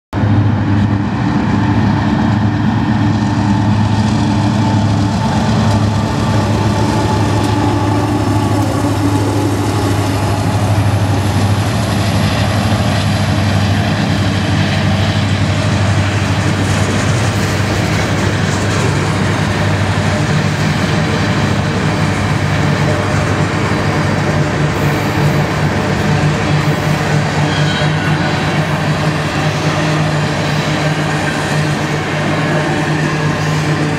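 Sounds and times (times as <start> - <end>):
diesel locomotive engines droning: 0.1 - 33.9
freight cars rolling by: 0.2 - 33.9.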